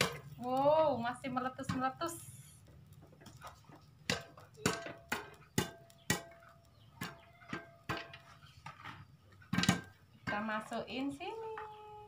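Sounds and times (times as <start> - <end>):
popcorn kernels popping: 0.0 - 11.9.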